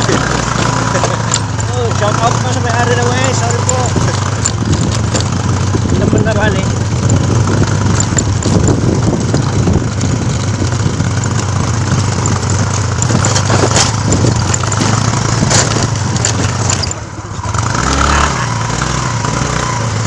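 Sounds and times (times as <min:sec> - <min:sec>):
sharp knocks and rattles: 0:00.0 - 0:18.0
motorcycle engine running: 0:00.0 - 0:20.0.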